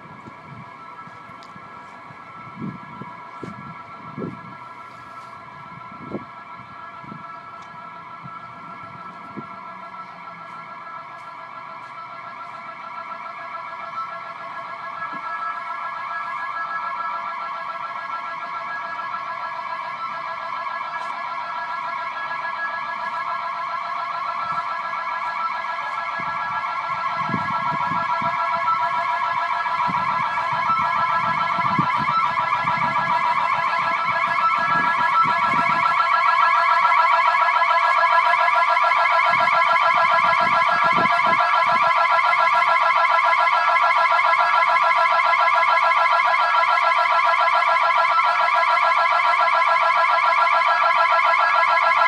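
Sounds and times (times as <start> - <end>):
warbling electronic security alarm: 0.0 - 52.0.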